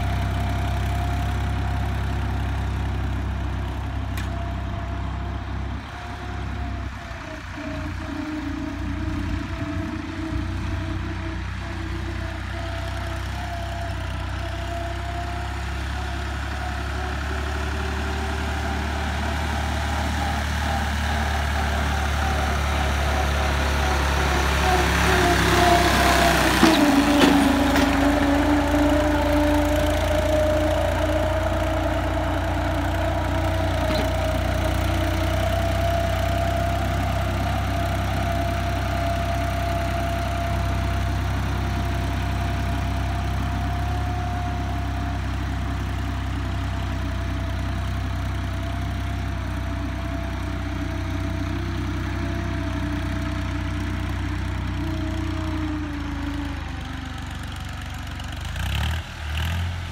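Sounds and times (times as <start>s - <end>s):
tractor engine drone: 0.0s - 59.9s.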